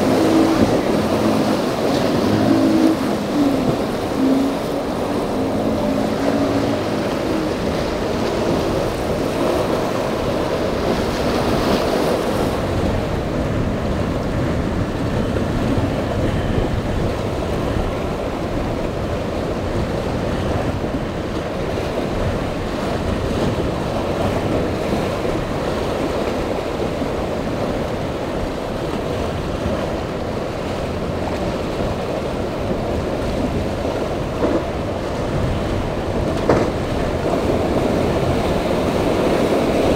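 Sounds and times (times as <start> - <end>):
outboard motors: 0.0 - 39.9
rough sea rushing: 0.0 - 39.9
wind buffeting microphone: 0.0 - 39.9.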